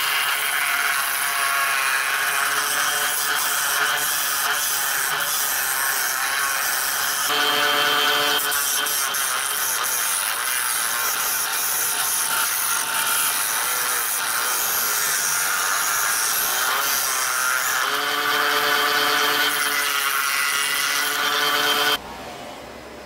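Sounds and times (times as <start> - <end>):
disc sander grinding wood: 0.0 - 22.0.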